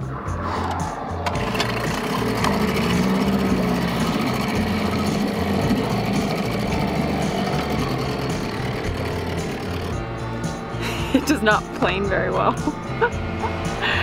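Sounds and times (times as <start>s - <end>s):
small outboard motor running: 1.3s - 14.0s.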